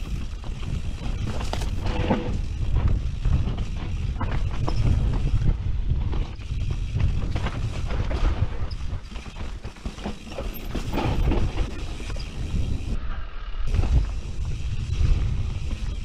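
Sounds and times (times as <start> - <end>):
wind on microphone: 0.0 - 9.2, 10.7 - 16.0
bike rattling and knocking: 0.0 - 12.9
bike tyres rumbling over dirt: 0.0 - 16.0.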